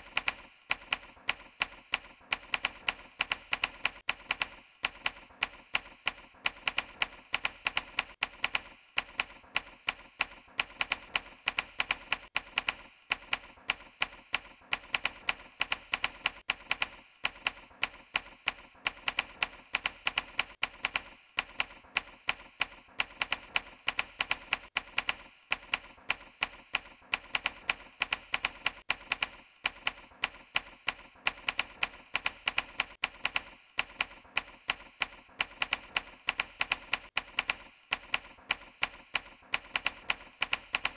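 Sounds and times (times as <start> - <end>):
rapid keyboard typing: 0.0 - 40.9.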